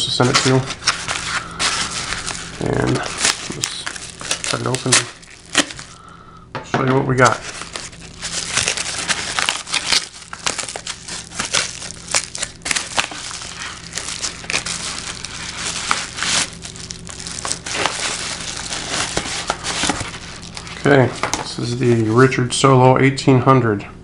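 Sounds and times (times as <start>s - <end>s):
paper envelope crinkling: 0.0s - 6.1s, 7.1s - 22.2s.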